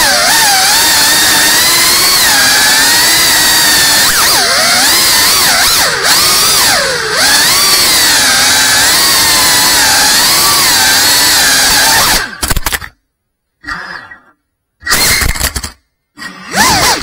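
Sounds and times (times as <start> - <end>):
drone motors whining: 0.0 - 12.4, 13.6 - 17.0.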